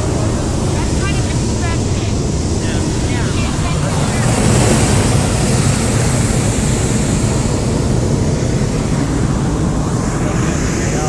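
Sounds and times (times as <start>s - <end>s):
propane burner blast: 0.0s - 11.0s.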